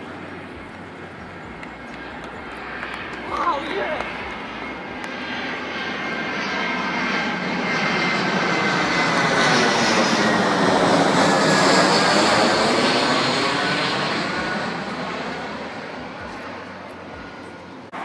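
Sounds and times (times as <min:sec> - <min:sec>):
airplane flying low overhead: 0:00.0 - 0:18.0.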